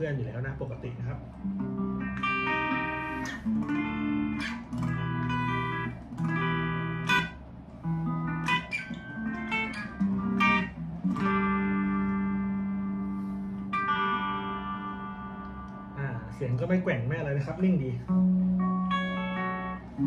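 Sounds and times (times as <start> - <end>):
electric guitar chords: 1.2 - 20.0.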